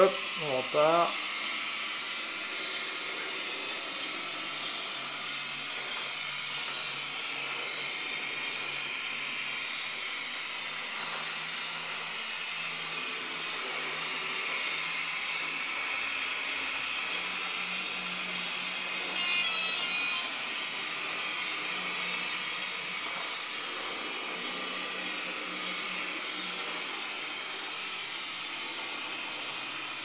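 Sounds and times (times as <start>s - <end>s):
model locomotive running on track: 0.0s - 30.0s.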